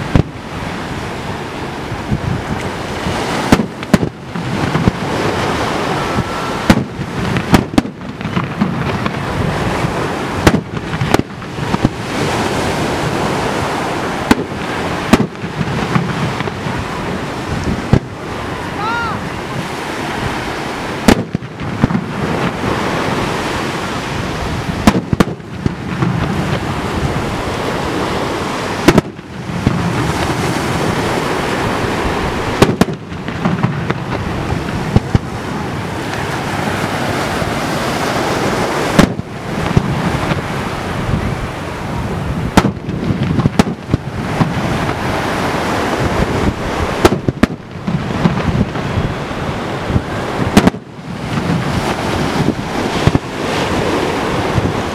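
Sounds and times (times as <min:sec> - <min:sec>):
steady rushing noise: 0:00.0 - 0:54.9
firework shells booming: 0:01.9 - 0:18.5, 0:20.6 - 0:54.9.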